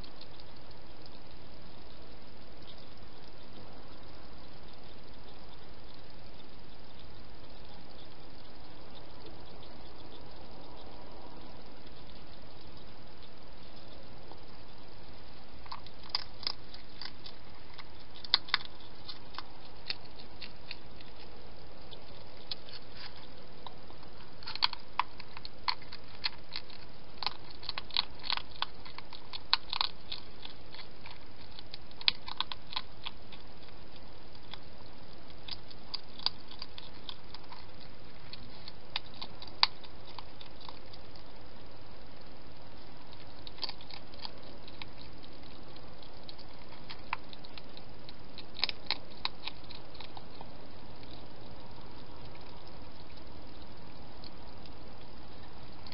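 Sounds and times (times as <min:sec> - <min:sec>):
background hiss: 0:00.0 - 0:55.9
hedgehog crunching food: 0:00.0 - 0:55.9.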